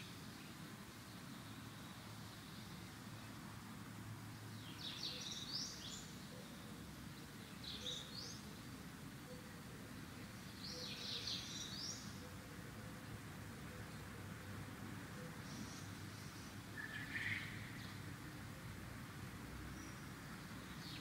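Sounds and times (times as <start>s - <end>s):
songbird chirping: 0.0s - 18.9s, 19.5s - 21.0s.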